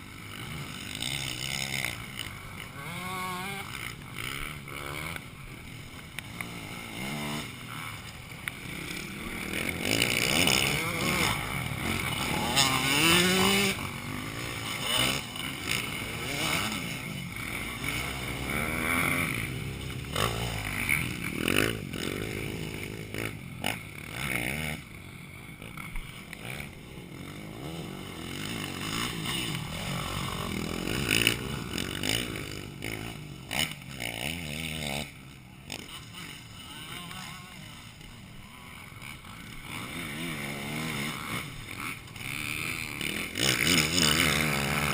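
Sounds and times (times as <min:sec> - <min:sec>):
motocross engines revving: 0:00.0 - 0:44.9.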